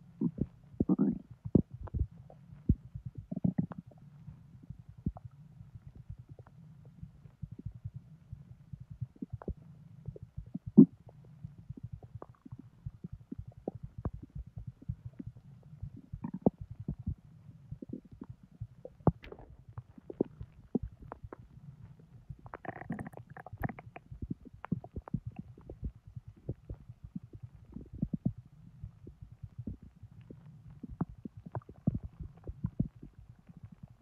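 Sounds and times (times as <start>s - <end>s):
low steady hum: 0.0s - 34.0s
stomach gurgles and pops: 0.0s - 34.0s.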